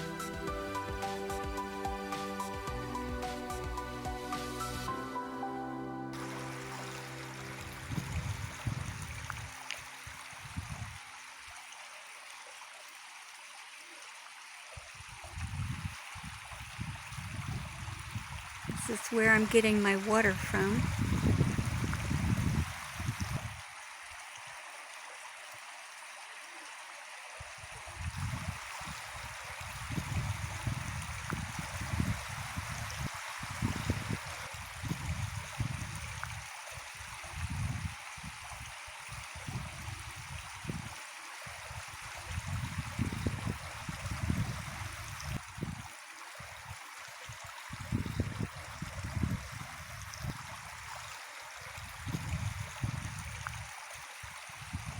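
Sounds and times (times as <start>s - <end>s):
stream water flowing: 6.1s - 54.9s.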